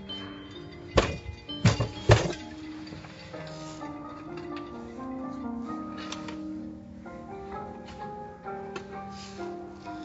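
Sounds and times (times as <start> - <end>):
music with held notes: 0.0 - 10.0.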